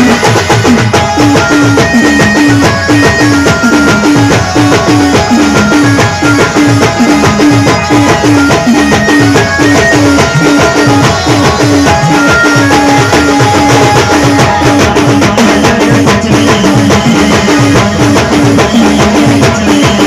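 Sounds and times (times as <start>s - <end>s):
fast drum beat: 0.0s - 20.0s
held melody line: 0.0s - 20.0s.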